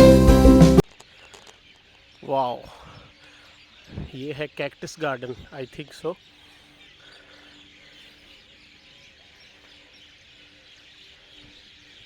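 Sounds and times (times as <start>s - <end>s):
small birds chirping: 0.8s - 12.0s.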